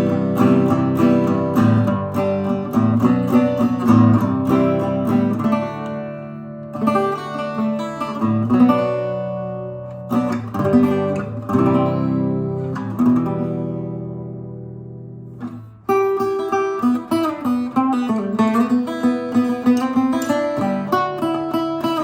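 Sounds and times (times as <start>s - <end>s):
acoustic guitar playing: 0.0s - 22.0s.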